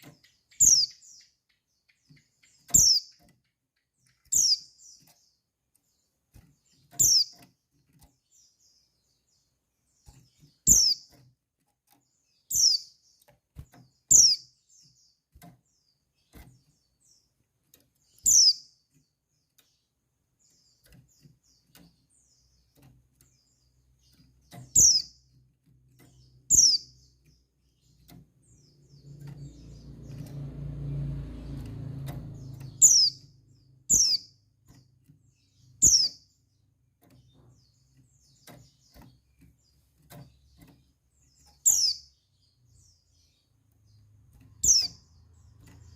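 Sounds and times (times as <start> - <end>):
bird chirping: 0.0 - 45.9.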